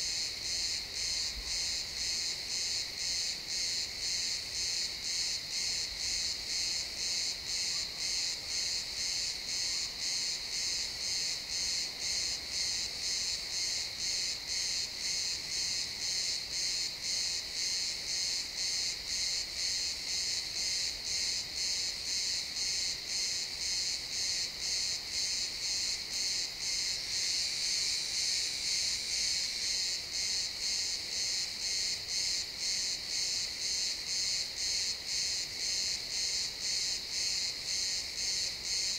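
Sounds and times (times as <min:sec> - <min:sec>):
crickets chirping: 0:00.0 - 0:38.9
steady insect trill: 0:00.0 - 0:38.9.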